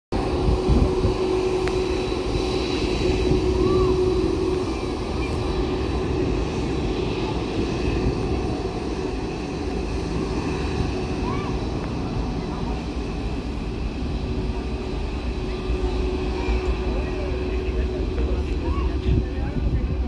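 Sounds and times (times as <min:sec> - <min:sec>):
jet engine whine: 0:00.1 - 0:20.0
jet engines rumbling: 0:00.1 - 0:20.0.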